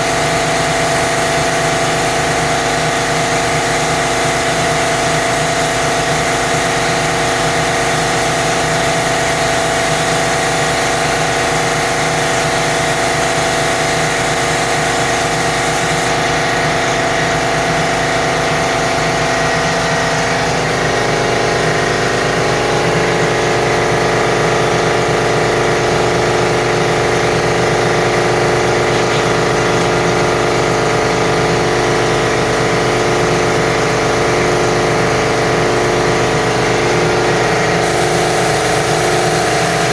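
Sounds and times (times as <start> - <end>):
paint sprayer motor humming: 0.0 - 39.9.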